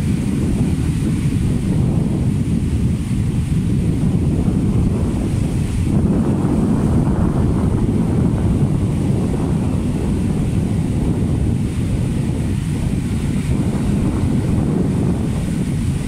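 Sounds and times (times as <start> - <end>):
surf washing onto beach: 0.0 - 16.0
wind buffeting microphone: 0.0 - 16.0.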